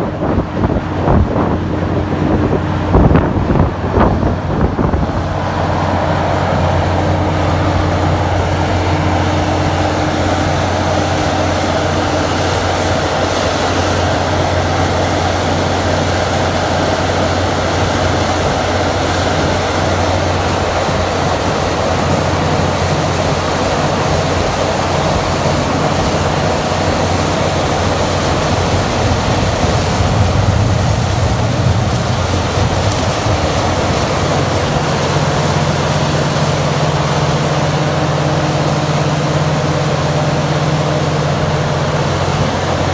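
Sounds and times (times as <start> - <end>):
air mud and water rushing out: 0.0 - 42.9
drilling rig engine humming: 0.0 - 42.9.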